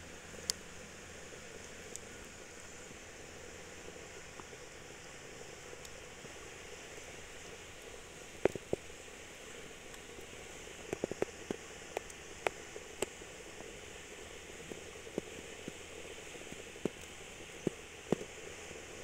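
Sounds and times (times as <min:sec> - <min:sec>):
rice boiling hiss: 0:00.0 - 0:19.0.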